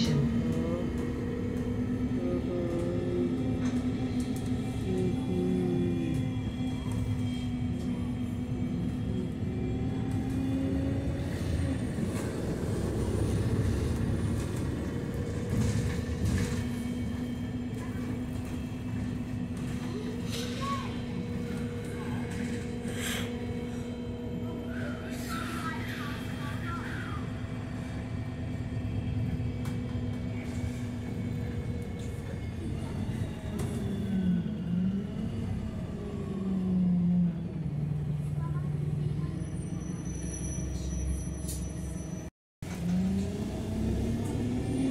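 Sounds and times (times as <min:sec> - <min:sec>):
bus engine and drivetrain hum: 0:00.0 - 0:44.9
road rumble: 0:00.0 - 0:44.9.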